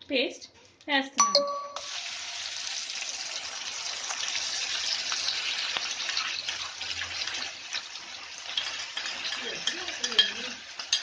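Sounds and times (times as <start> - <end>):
paste sizzling in hot oil: 1.8 - 11.0.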